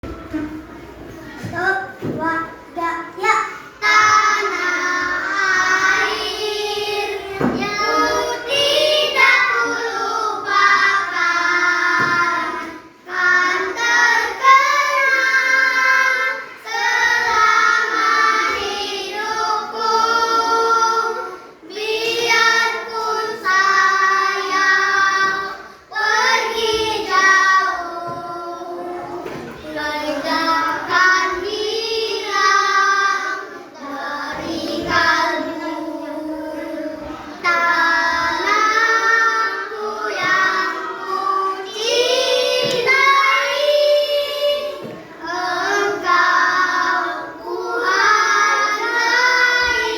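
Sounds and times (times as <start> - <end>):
children's choir singing: 0.0 - 49.9.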